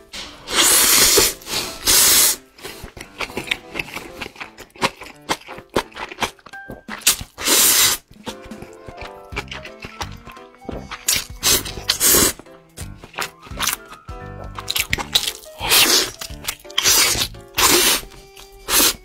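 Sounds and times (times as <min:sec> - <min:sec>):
wet chewing: 0:00.4 - 0:19.0
mouth clicks: 0:00.5 - 0:19.0
noodles slurped loudly: 0:00.5 - 0:19.0.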